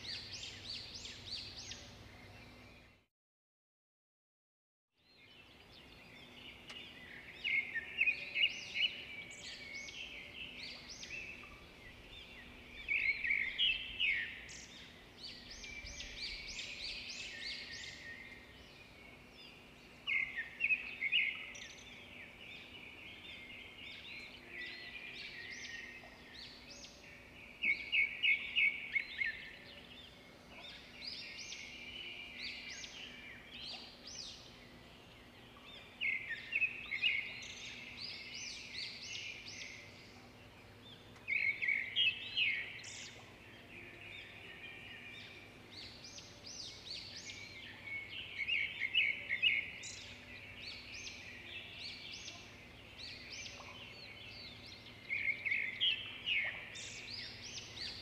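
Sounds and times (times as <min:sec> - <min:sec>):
bird chirping: 0:00.0 - 0:03.0, 0:05.0 - 0:58.0
faint steady hum: 0:05.4 - 0:58.0.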